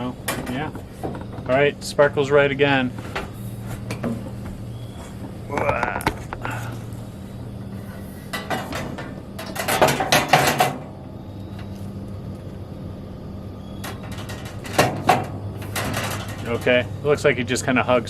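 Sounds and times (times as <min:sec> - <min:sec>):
metal grill parts clanking: 0:00.0 - 0:04.4, 0:05.1 - 0:07.0, 0:07.6 - 0:11.9, 0:13.8 - 0:18.0
steady low hum: 0:00.0 - 0:18.0.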